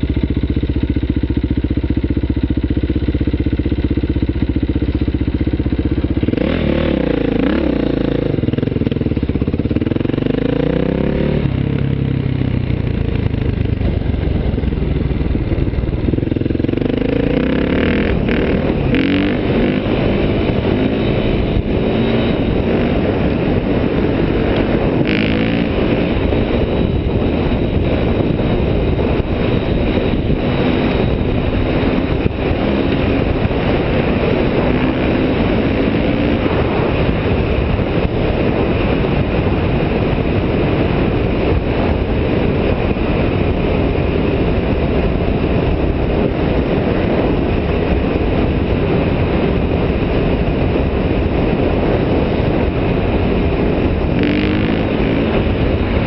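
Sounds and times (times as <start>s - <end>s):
dirt bike engine running: 0.0s - 56.0s
wind on microphone: 0.0s - 56.0s.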